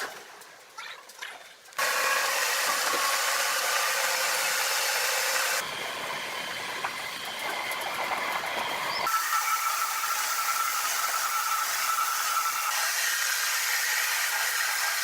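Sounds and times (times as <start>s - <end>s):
quieter machine noise: 1.8s - 14.9s
sawmill machinery running: 1.8s - 15.0s.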